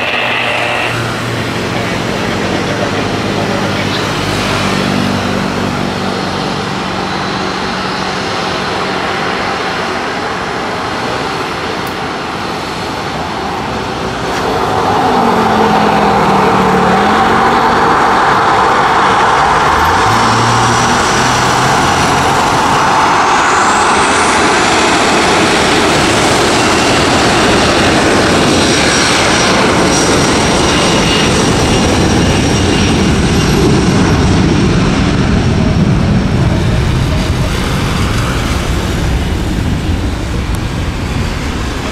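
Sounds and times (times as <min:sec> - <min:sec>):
high engine whine: 0:00.0 - 0:41.9
jet engines spooling up: 0:00.0 - 0:41.9.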